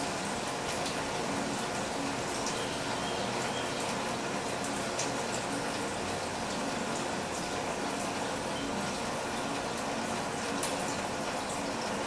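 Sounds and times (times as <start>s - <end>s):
sharp water drips: 0.0s - 12.0s
water trickling down rain chain: 0.0s - 12.0s.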